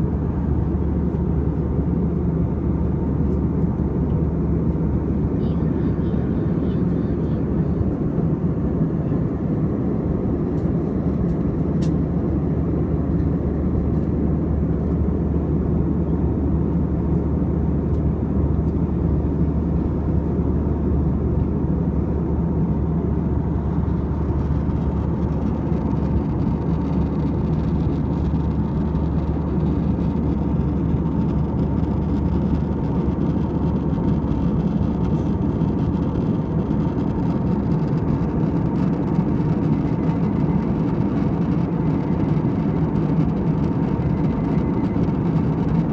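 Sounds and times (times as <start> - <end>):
jet airliner cabin drone: 0.0 - 45.9.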